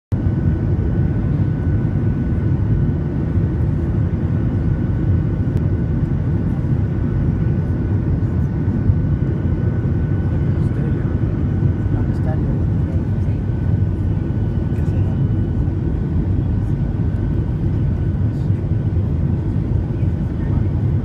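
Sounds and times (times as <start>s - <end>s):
engine and airflow rush: 0.1s - 21.0s
faint high turbine whine: 0.2s - 21.0s.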